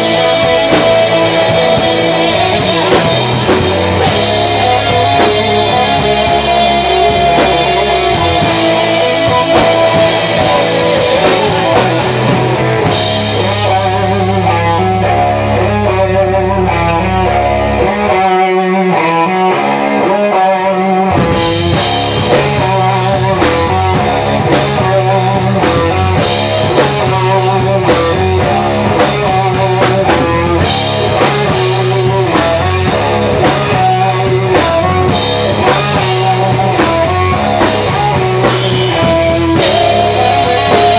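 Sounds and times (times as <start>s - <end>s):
drum kit with cymbals: 0.0s - 14.8s, 19.4s - 40.9s
bass guitar: 0.0s - 40.9s
electric guitar: 0.0s - 40.9s.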